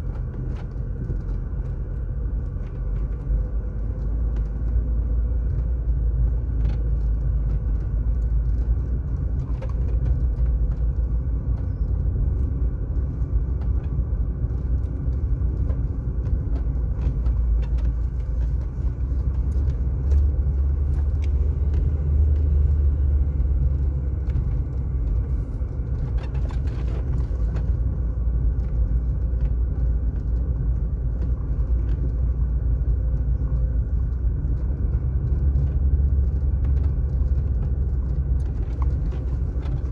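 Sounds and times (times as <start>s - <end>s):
car driving on asphalt: 0.0s - 39.9s.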